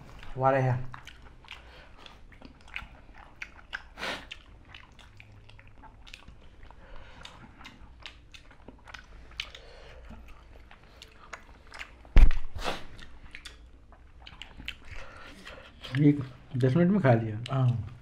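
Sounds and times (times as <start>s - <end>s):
people chewing food: 0.0s - 18.0s
wet mouth clicks: 0.2s - 16.0s.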